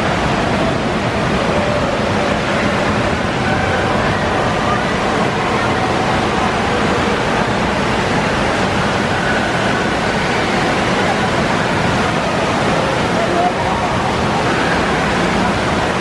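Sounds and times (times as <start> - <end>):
distant crowd voices: 0.0 - 16.0
water rushing and splashing: 0.0 - 16.0.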